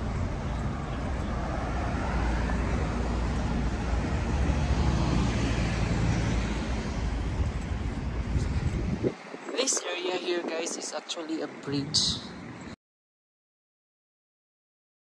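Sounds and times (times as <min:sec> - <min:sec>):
road traffic rumble: 0:00.0 - 0:12.8.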